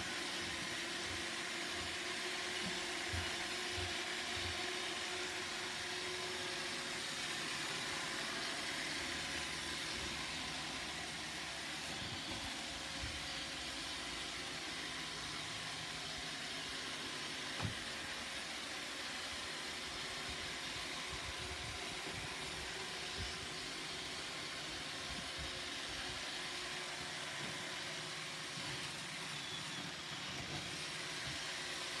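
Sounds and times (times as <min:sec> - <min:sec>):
robot vacuum whirring: 0:00.0 - 0:32.0.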